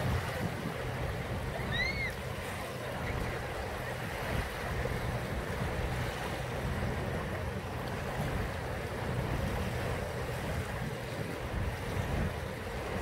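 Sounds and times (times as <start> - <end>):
waves washing onto sandy beach: 0.0 - 13.0
wind rumble on microphone: 0.0 - 13.0.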